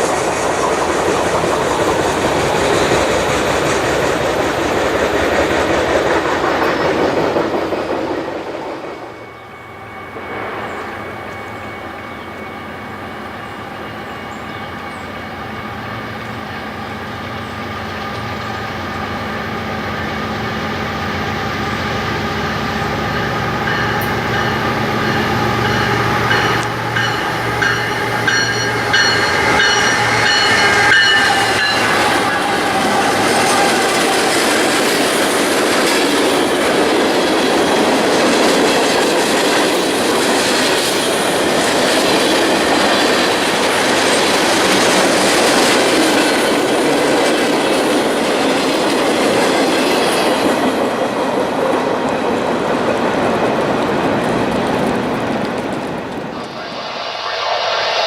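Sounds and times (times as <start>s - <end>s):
train wheels clattering on rails: 0.0s - 56.8s
diesel locomotive engine hum: 0.0s - 58.0s.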